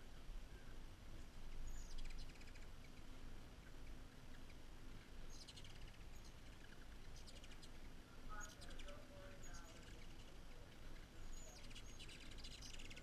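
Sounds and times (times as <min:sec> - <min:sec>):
faint background hiss: 0:00.0 - 0:13.0
hummingbirds chattering: 0:00.0 - 0:13.0.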